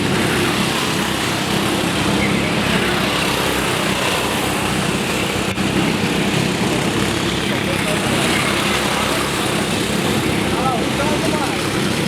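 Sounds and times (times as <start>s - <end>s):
kart engines droning: 0.0s - 12.0s.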